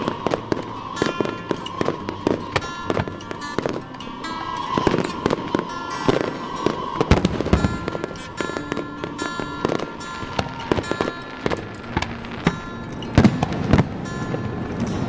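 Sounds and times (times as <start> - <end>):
fireworks booming and cracking: 0.0 - 15.0
music playing: 0.0 - 15.0.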